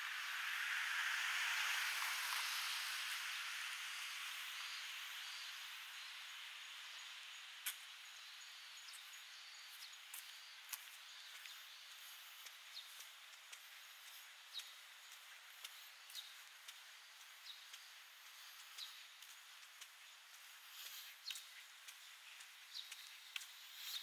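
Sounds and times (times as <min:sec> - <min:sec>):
broad hiss: 0:00.0 - 0:09.7, 0:10.3 - 0:24.0.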